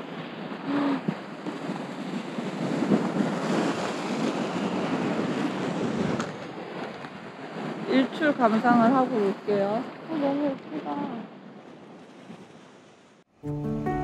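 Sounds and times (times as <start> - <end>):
wind buffeting microphone: 0.0 - 13.2
ocean waves breaking: 0.0 - 14.0.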